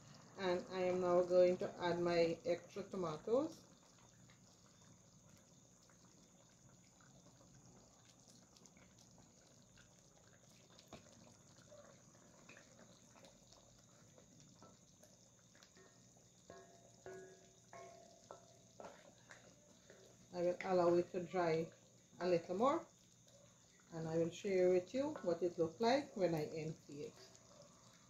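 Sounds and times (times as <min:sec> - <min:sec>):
curry bubbling: 0:00.0 - 0:28.0.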